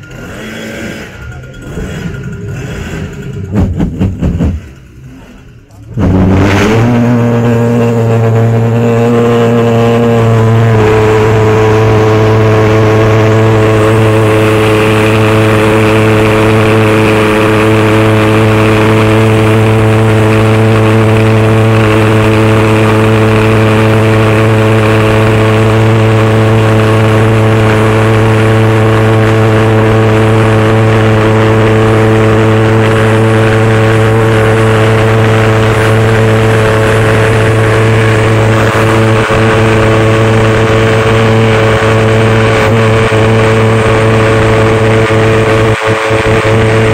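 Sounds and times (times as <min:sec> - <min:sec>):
pulse jet engine drone: 0:00.0 - 0:46.9.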